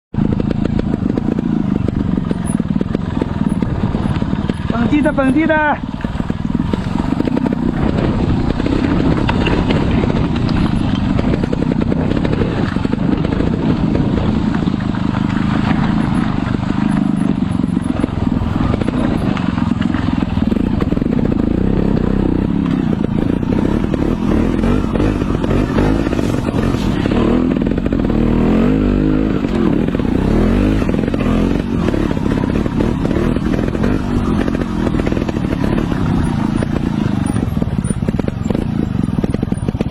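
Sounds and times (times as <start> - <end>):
motorbike engine running: 0.1 - 39.9.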